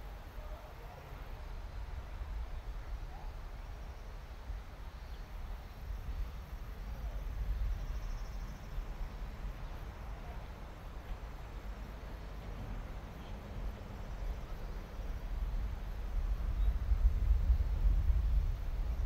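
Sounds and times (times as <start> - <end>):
diesel railcar engine rumble: 0.0 - 19.0
faint insect chirping: 0.0 - 19.0.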